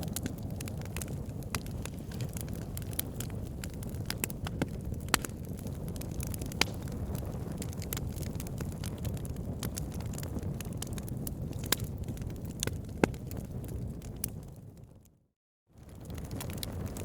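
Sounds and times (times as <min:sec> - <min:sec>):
wood fire crackling and popping: 0:00.0 - 0:15.1, 0:15.8 - 0:17.0
low rumble of flame: 0:00.0 - 0:17.0.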